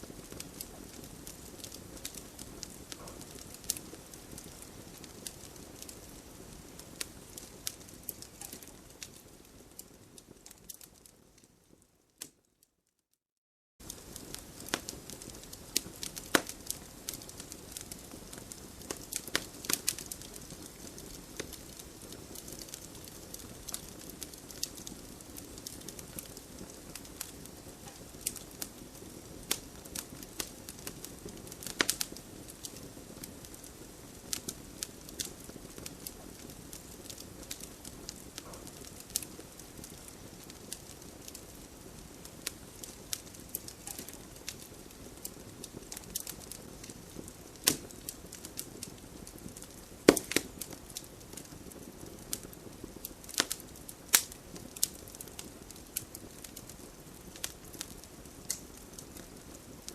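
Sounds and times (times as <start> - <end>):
wood campfire crackling: 0.0 - 12.4, 13.8 - 59.9.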